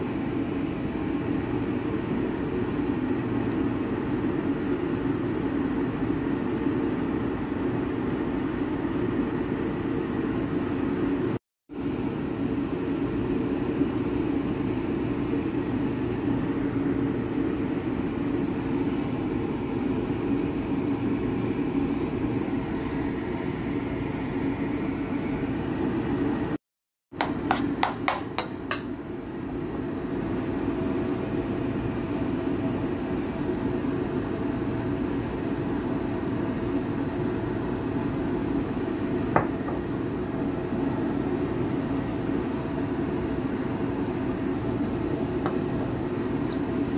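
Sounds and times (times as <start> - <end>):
mechanical hum: 0.0 - 46.9.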